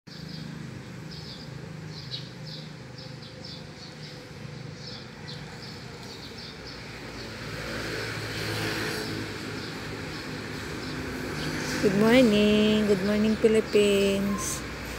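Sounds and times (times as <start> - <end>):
traffic engine hum: 0.1 - 14.9
vehicle passing: 0.1 - 14.9.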